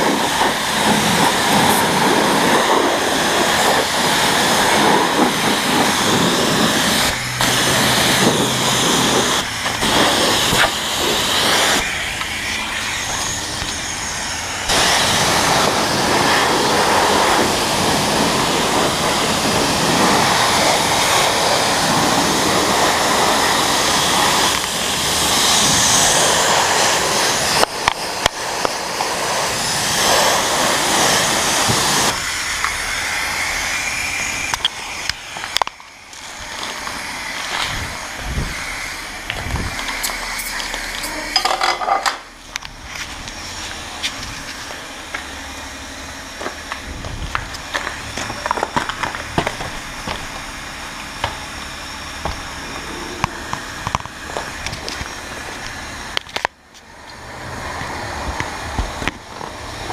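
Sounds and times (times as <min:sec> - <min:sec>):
pressure washer spraying water: 0:00.0 - 0:59.9.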